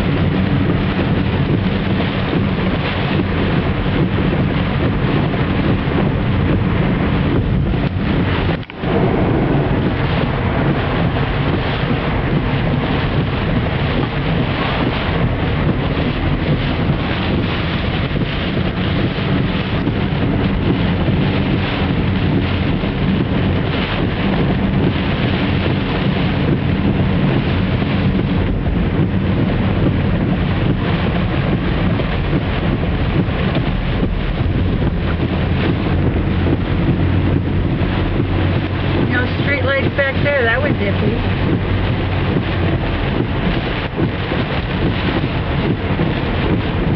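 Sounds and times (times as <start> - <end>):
car engine and tyres humming: 0.0 - 46.9
spraying water: 0.0 - 46.9
wind rushing: 0.0 - 46.9.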